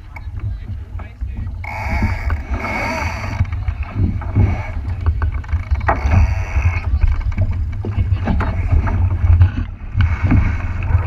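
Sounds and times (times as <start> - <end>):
water splashing against hull: 0.0 - 11.0
wind rumble on microphone: 0.0 - 11.0.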